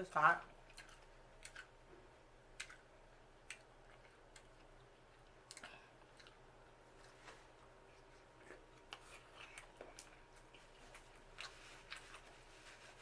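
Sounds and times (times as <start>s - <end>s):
person chewing with smacks: 0.4s - 13.0s.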